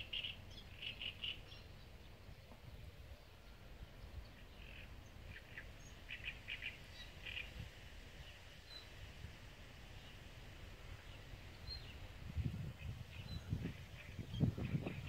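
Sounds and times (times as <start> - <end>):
small birds chirping: 0.0 - 9.0, 9.9 - 15.0.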